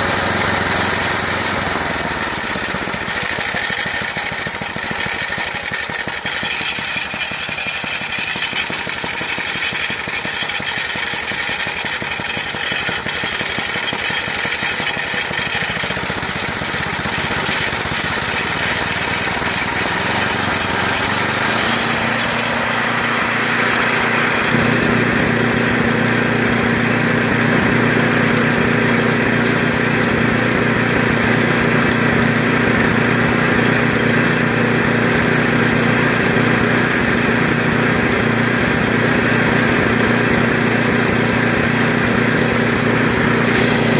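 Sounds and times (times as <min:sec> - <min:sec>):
snowblower engine running: 0:00.0 - 0:43.9.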